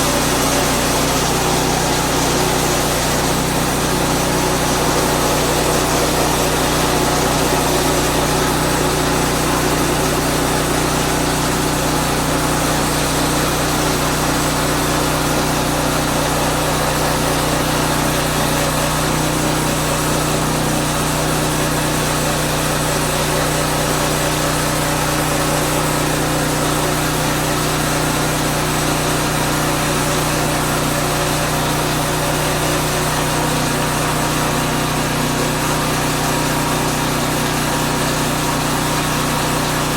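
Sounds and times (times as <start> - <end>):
band blade sawing log: 0.0 - 39.9
sawmill engine running: 0.0 - 39.9.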